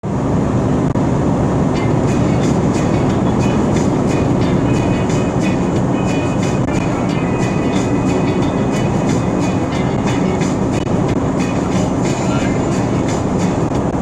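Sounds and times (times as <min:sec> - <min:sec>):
vehicle rumbling on road: 0:00.0 - 0:14.0.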